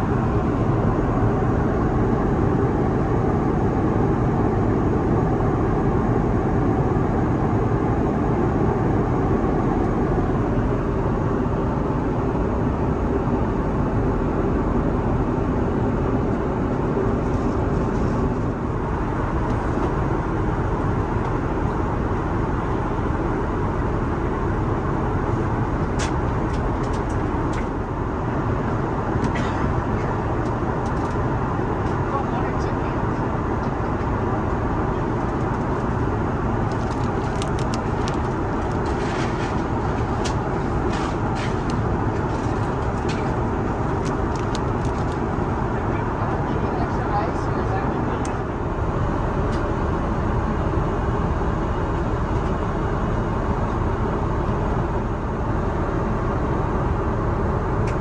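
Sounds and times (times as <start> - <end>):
airplane engines droning: 0.0 - 58.0.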